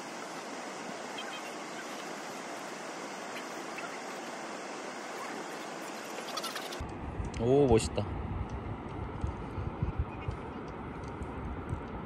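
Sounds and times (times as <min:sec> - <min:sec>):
steady rushing ambience: 0:00.0 - 0:12.0.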